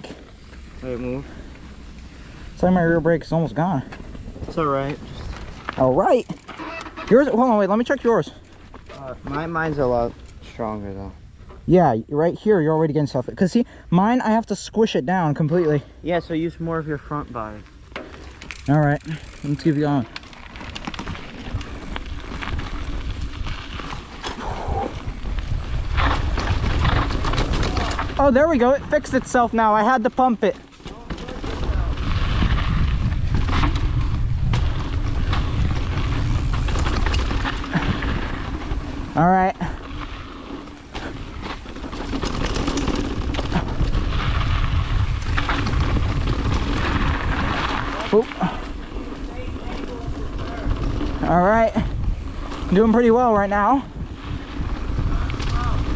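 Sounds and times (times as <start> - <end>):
wind rumbling on microphone: 0.0 - 11.5, 18.2 - 30.1, 30.8 - 55.9
bike rattling and clicking: 0.0 - 11.7, 16.4 - 55.9.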